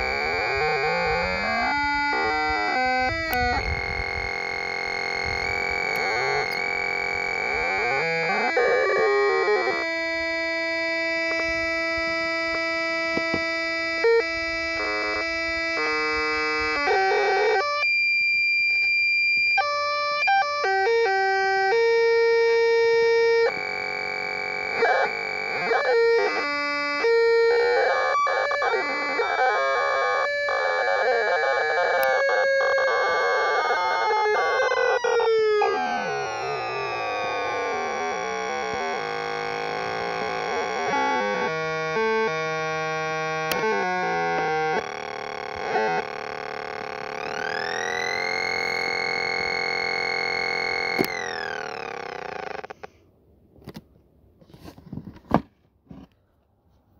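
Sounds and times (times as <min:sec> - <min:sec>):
synth squealing tones: 0:00.0 - 0:53.0.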